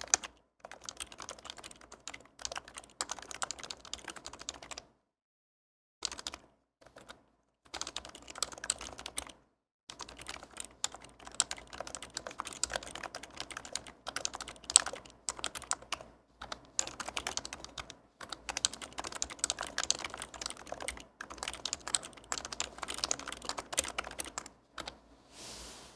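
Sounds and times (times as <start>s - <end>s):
fast typing on keyboard: 0.0s - 4.9s, 6.0s - 25.0s.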